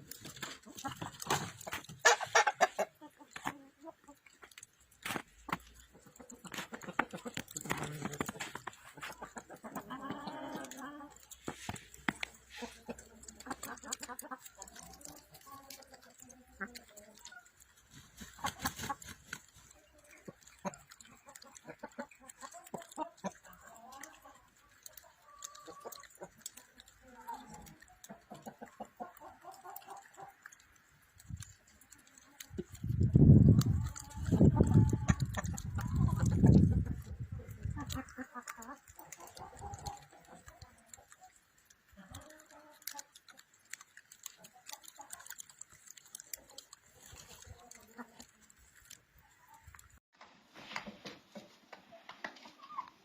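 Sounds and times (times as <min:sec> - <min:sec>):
chickens clucking: 0:00.0 - 0:50.0, 0:50.7 - 0:53.0
light clicks and ticks: 0:02.7 - 0:50.0.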